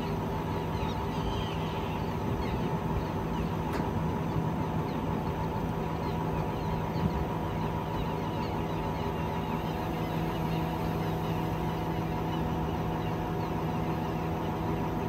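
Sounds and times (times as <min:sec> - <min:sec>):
crane engine humming: 0:00.0 - 0:15.0.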